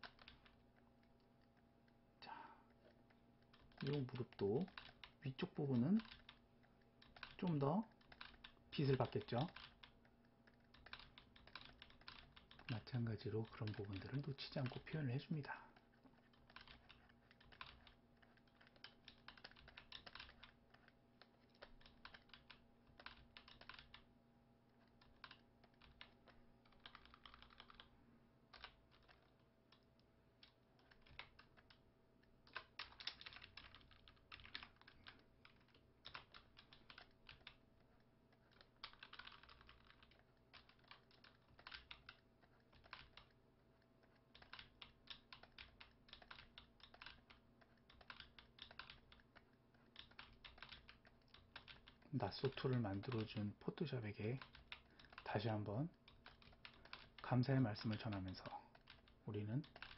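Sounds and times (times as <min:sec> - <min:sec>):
computer keys clicking: 0:00.0 - 0:24.1, 0:24.7 - 0:59.9
faint steady hum: 0:00.0 - 0:59.9.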